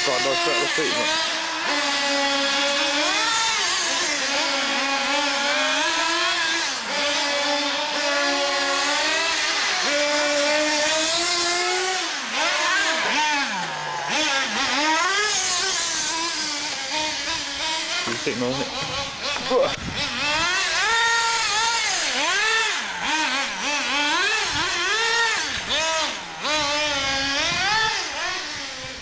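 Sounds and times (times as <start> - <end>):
small nitro engines revving: 0.0 - 29.0.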